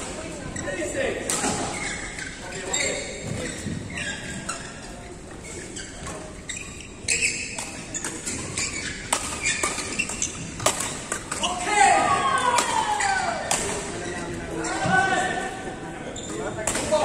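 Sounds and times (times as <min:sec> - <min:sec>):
court shoes squeaking: 0:00.0 - 0:17.0
voices in a large hall: 0:00.0 - 0:17.0.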